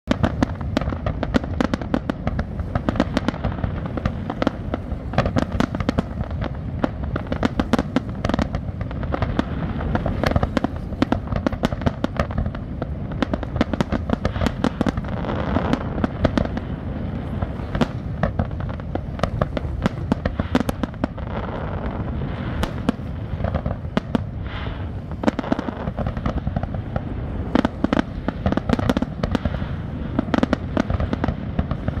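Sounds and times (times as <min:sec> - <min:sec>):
fireworks bursting and crackling: 0:00.0 - 0:32.0.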